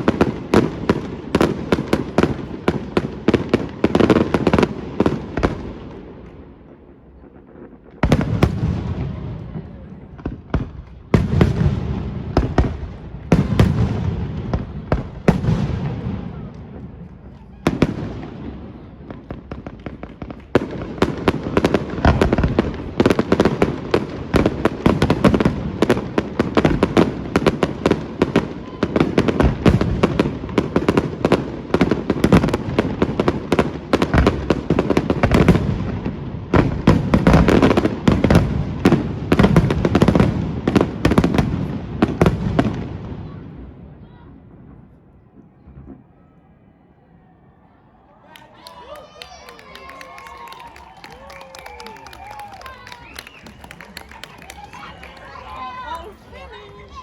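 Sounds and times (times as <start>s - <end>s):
fireworks rapid bangs and crackling: 0.0s - 43.7s, 49.6s - 57.0s
fireworks booming bursts: 0.0s - 46.2s.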